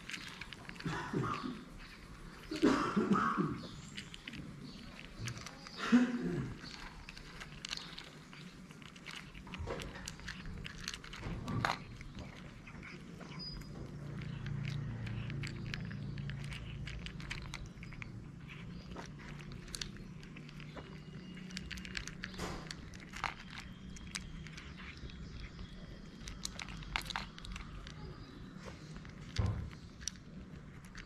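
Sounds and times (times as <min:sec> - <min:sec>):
cats crunching dry kibble: 0:00.0 - 0:31.0.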